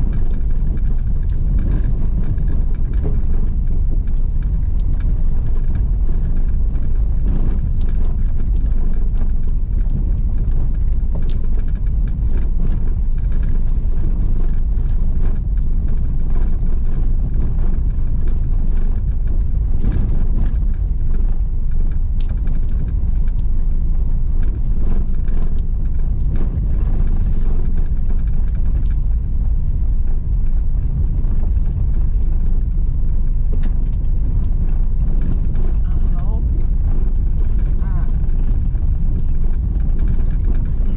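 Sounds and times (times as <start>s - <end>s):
tyres and engine rumbling: 0.0s - 40.9s.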